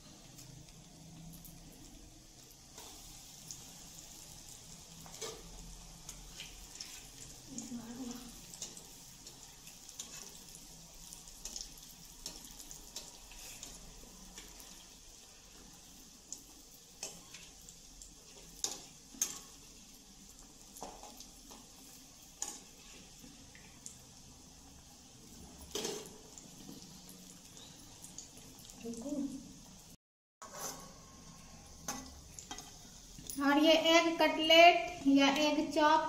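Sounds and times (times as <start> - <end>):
food deep-frying in oil: 0.0 - 36.0.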